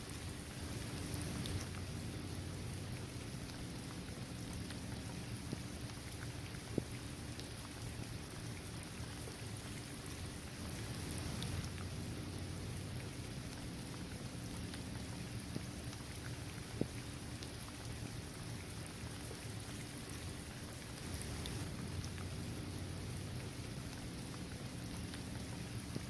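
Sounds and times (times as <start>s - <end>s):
rain on pavement and trees: 0.0s - 26.0s.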